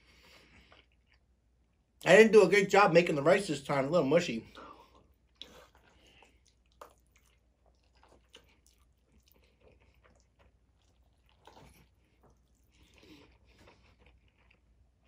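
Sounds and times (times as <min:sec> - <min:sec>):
faint chewing: 0:00.0 - 0:01.8, 0:04.5 - 0:15.0.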